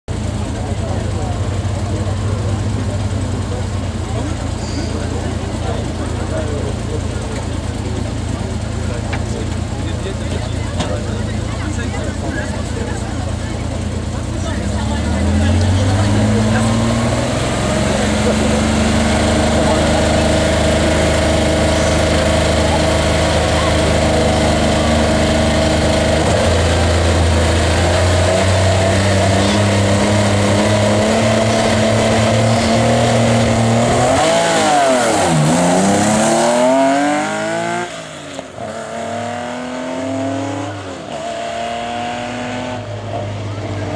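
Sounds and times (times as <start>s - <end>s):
rally car engine revving: 0.1s - 43.9s.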